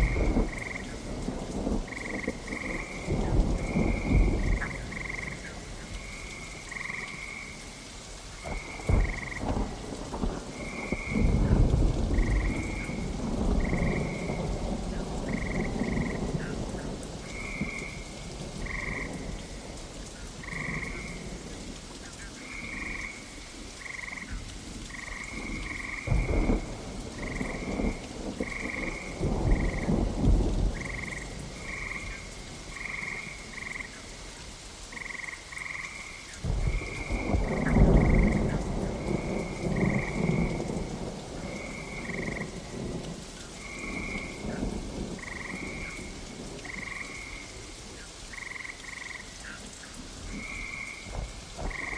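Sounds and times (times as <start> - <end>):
thunder rumbling: 0.0 - 7.1, 8.4 - 21.8, 24.0 - 34.0, 36.4 - 48.5, 50.1 - 51.9
frogs croaking: 0.0 - 51.9
steady rain: 0.0 - 51.9.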